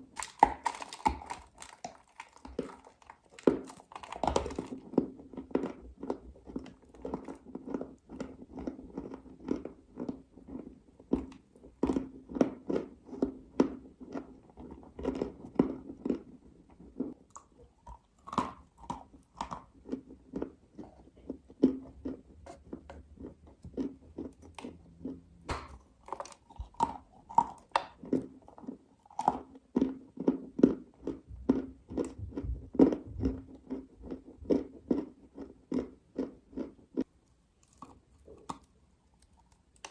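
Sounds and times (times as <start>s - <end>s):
person chewing crunchy clay: 0.0s - 39.9s.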